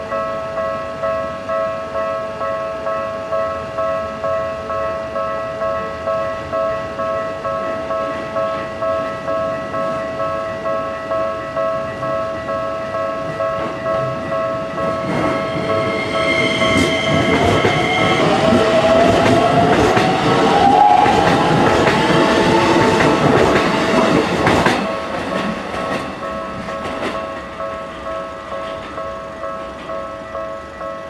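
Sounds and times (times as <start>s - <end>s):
level crossing warning bell: 0.0s - 31.0s.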